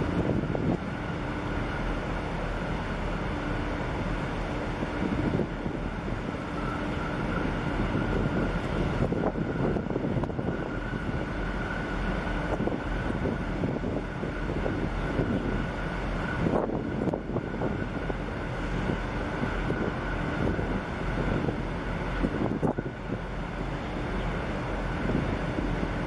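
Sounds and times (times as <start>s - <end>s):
wind noise on microphone: 0.0s - 1.2s, 4.6s - 26.0s
ship machinery drone: 0.0s - 26.0s.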